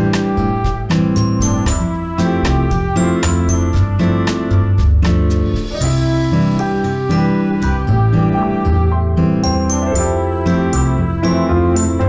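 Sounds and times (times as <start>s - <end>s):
background music with struck notes: 0.0s - 12.0s.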